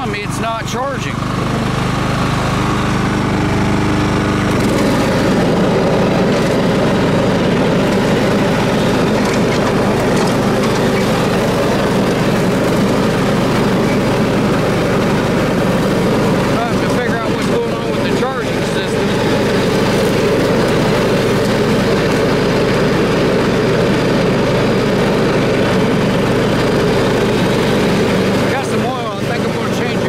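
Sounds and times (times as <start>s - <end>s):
lawn tractor engine running: 0.0s - 30.0s.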